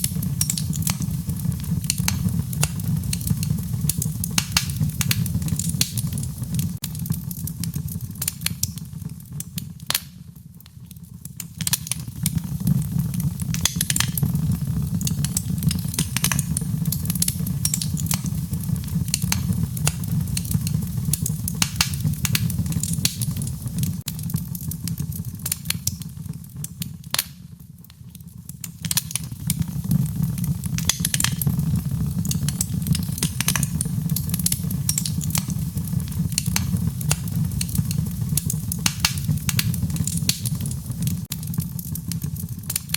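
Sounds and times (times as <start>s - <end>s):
low rumble of flames: 0.0s - 42.9s
wood fire crackling and popping: 0.0s - 42.9s.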